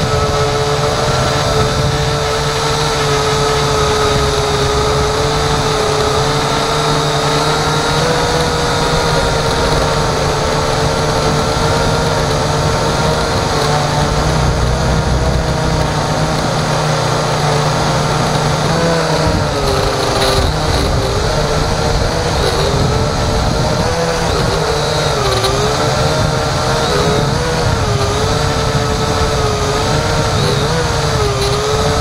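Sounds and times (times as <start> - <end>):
model aircraft motor and propeller: 0.0 - 32.0.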